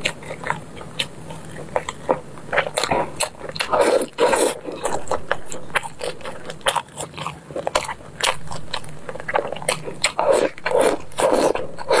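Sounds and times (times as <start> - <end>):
chewing and lip smacking: 0.0 - 12.0.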